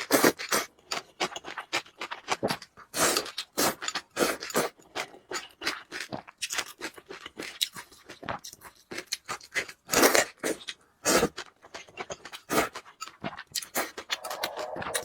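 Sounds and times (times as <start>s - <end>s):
wet chewing and slurping: 0.0s - 15.0s.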